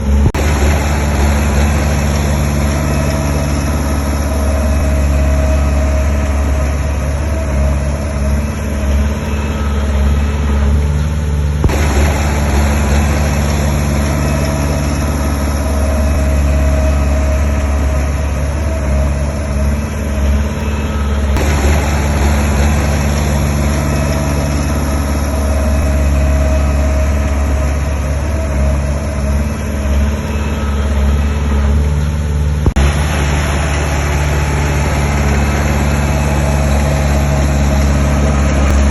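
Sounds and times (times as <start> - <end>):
heavy machinery diesel engines: 0.0 - 38.9.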